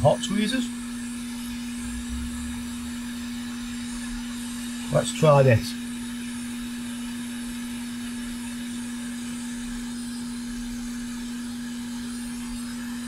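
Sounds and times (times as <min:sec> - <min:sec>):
hot air gun blowing: 0:00.0 - 0:13.0
steady hum: 0:00.0 - 0:13.0.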